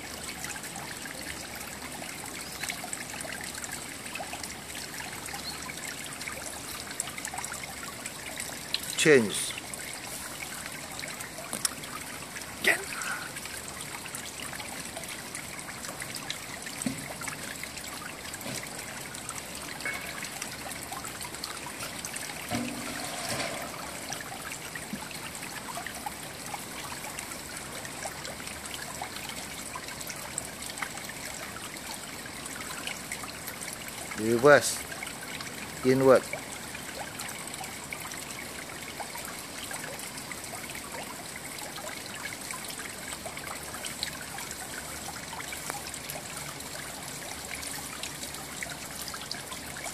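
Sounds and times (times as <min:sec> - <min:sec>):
trickle of running water: 0:00.0 - 0:49.9.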